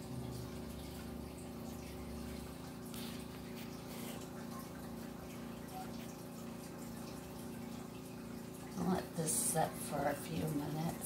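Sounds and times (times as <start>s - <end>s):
water pump humming: 0.0s - 11.0s.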